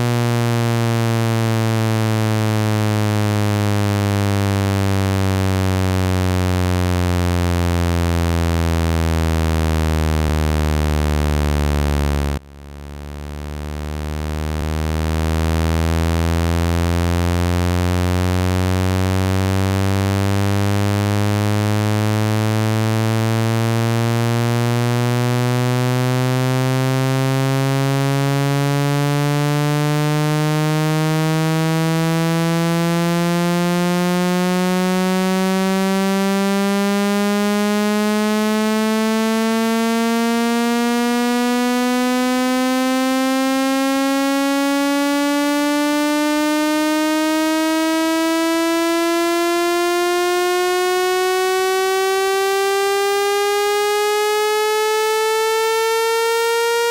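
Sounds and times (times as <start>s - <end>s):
buzzy electronic tone sweeping upward: 2.4s - 56.9s.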